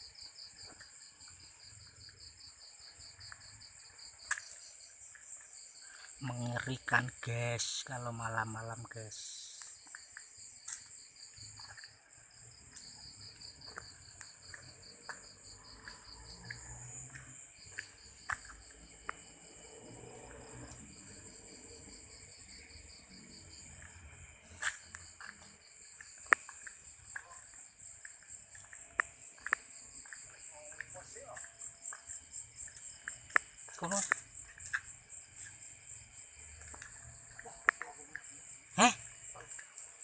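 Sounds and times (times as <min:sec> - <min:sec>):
continuous high-pitched insect trill: 0:00.0 - 0:40.0
rapidly pulsing insect trill: 0:00.0 - 0:40.0.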